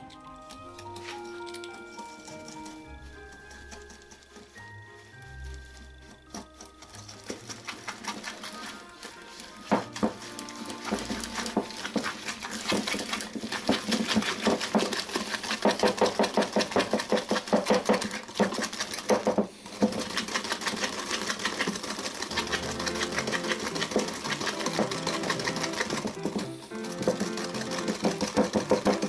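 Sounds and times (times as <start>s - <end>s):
wire whisk clattering in bowl: 0.0s - 4.6s, 6.3s - 29.0s.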